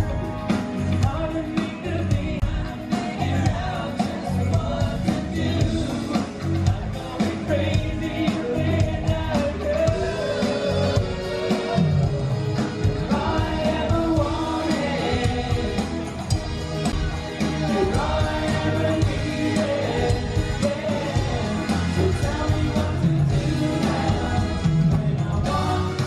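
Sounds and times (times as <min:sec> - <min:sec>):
person singing: 0:00.0 - 0:16.3, 0:17.0 - 0:26.0
drum kit beat: 0:00.0 - 0:26.0
live pop band playing: 0:00.0 - 0:26.0.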